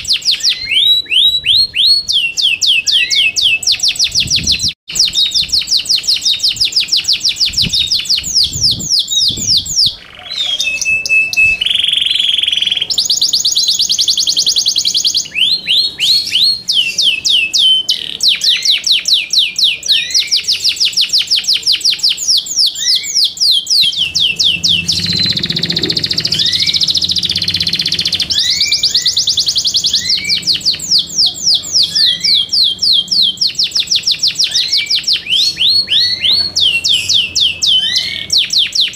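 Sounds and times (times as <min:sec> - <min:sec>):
whistled bird note: 0:00.0 - 0:21.0, 0:22.3 - 0:38.9
canary singing trills: 0:00.0 - 0:38.9.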